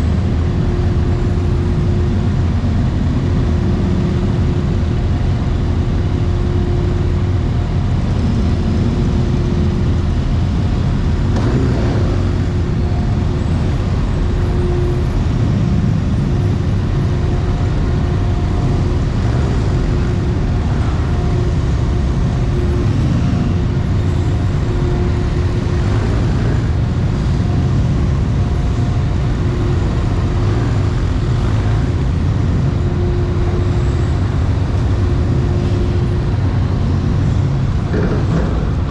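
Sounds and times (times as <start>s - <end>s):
vehicle engines rumbling: 0.0s - 38.9s.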